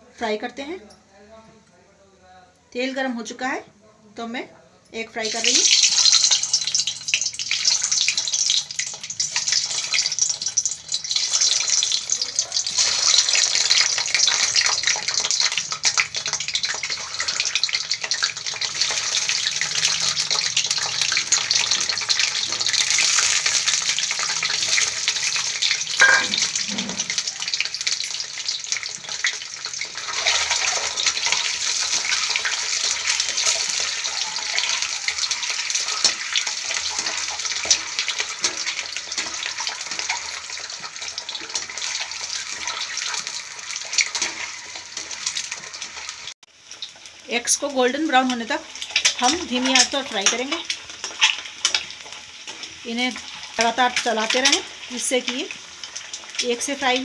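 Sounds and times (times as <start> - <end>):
eggs sizzling in hot oil: 5.0 - 57.0.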